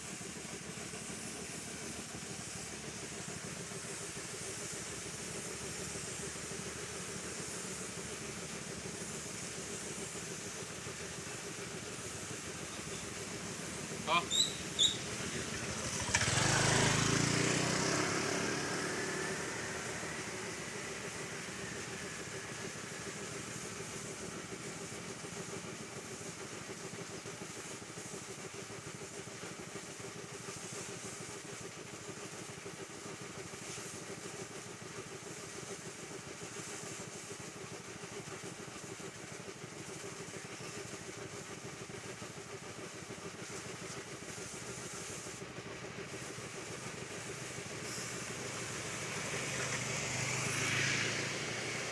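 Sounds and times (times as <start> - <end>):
hiss: 0.0 - 51.9.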